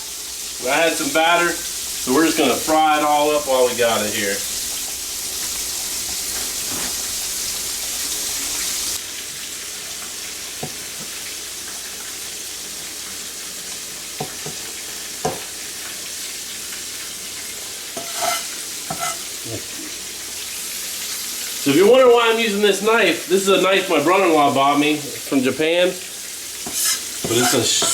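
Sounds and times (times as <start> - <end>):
fish frying in hot oil: 0.0 - 27.9.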